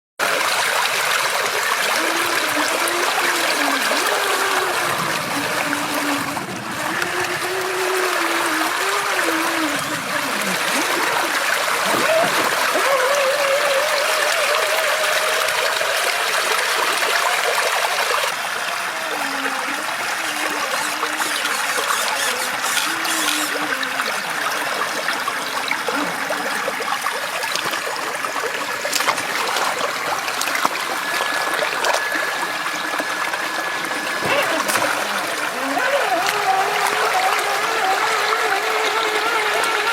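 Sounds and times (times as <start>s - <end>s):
river water trickling: 0.2s - 39.9s.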